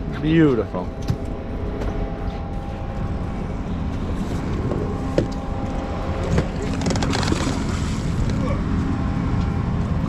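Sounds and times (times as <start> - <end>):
boat engine idling: 0.0 - 10.0
wind: 0.0 - 10.0
water noise: 0.9 - 10.0.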